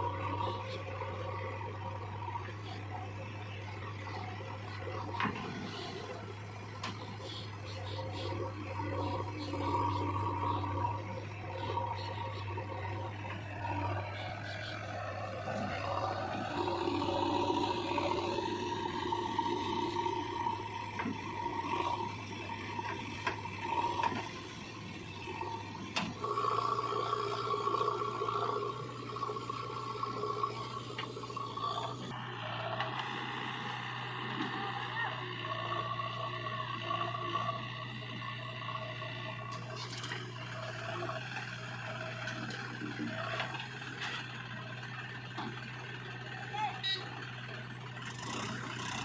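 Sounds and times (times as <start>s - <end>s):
diesel engine humming: 0.0s - 49.0s
hydraulics whining: 0.0s - 49.0s.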